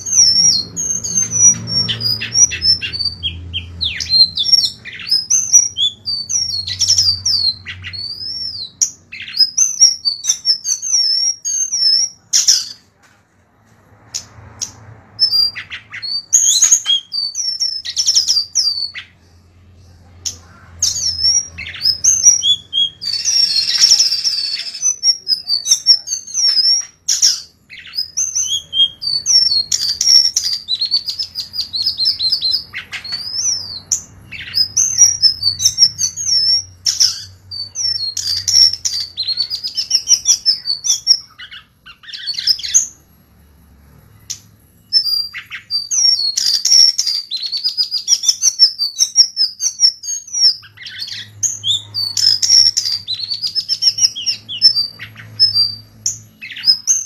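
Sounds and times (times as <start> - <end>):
songbird singing: 0.0 - 13.0, 13.9 - 57.0.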